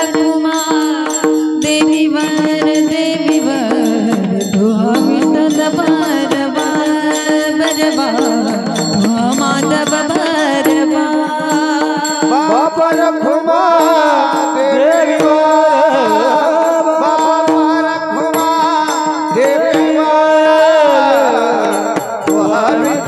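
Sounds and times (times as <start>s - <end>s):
drum and cymbal strokes: 0.0s - 23.0s
person singing ornamented notes: 0.0s - 23.0s.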